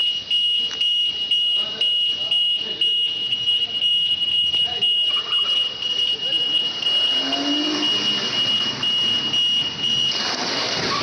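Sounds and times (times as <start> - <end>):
high-pitched electronic alarm tone: 0.0 - 11.0.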